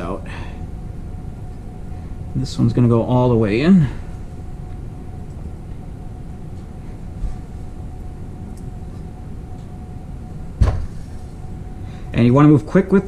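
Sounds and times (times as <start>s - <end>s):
faint hum: 0.0s - 13.0s
low workshop rumble: 0.0s - 13.0s.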